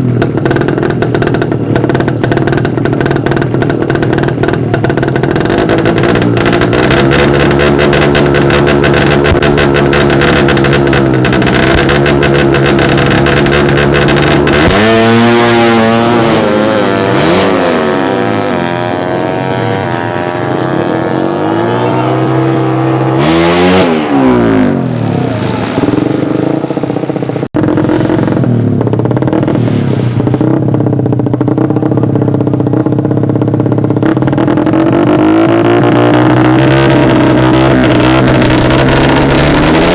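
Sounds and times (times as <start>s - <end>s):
motorcycle engines revving: 0.0s - 39.9s
motorcycle accelerating past: 0.2s - 32.5s, 33.9s - 39.9s.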